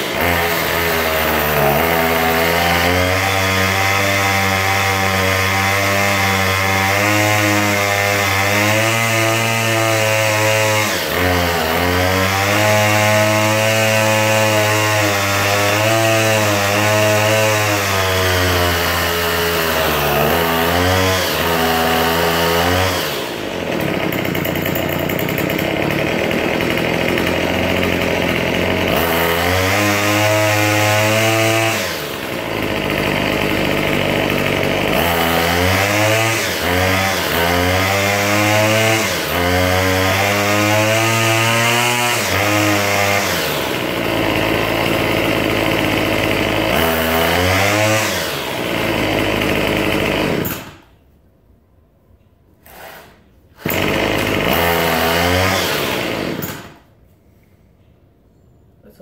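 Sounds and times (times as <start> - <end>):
string trimmer engine revving: 0.0 - 50.8, 53.6 - 56.8.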